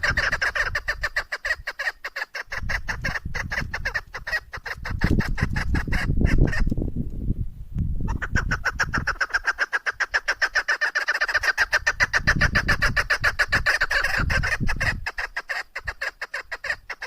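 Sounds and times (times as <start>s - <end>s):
partridge calling: 0.0s - 6.7s, 8.0s - 17.0s.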